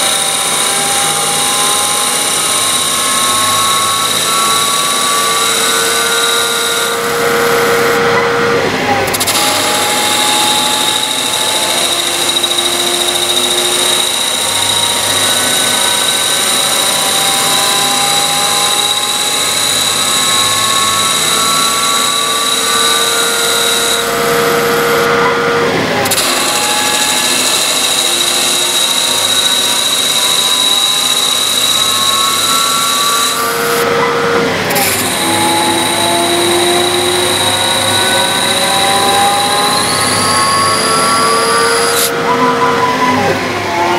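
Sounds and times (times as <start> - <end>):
lathe spindle whine cutting metal: 0.0 - 43.9.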